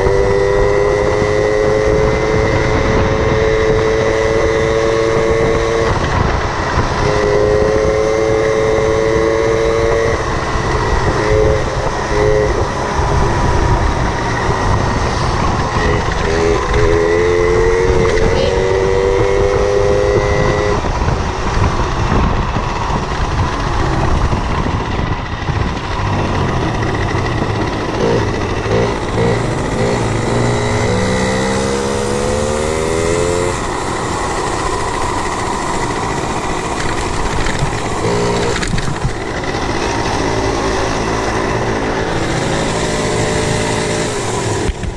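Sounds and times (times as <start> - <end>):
moped engine revving: 0.0 - 44.9.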